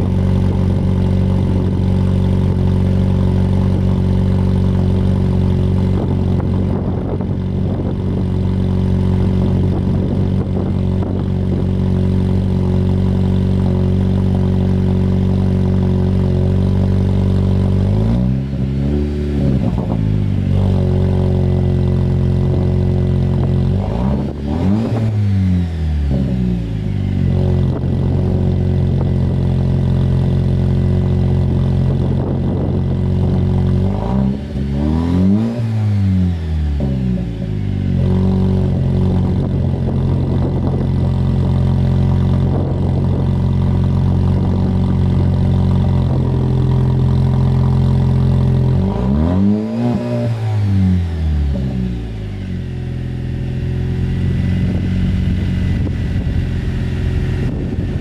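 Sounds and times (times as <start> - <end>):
car engine idling: 0.0 - 35.5, 36.1 - 58.0
engine revving: 0.0 - 58.0.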